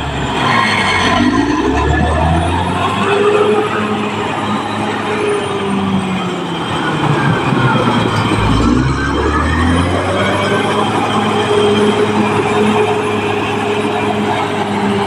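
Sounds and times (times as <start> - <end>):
bulldozer diesel engine droning: 0.0 - 15.0
high whining tones: 0.0 - 15.0.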